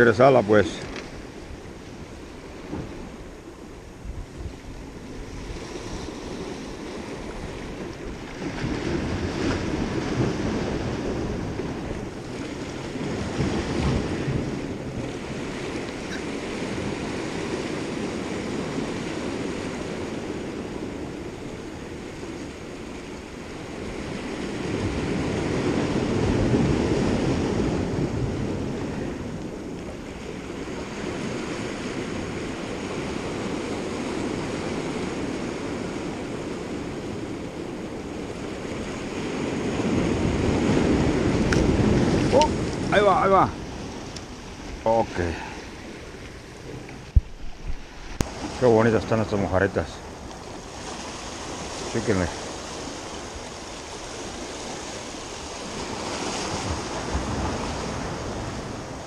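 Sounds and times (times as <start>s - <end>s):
wind rumbling on microphone: 0.0s - 59.0s
surf breaking on rocks: 5.0s - 21.5s, 22.2s - 59.0s.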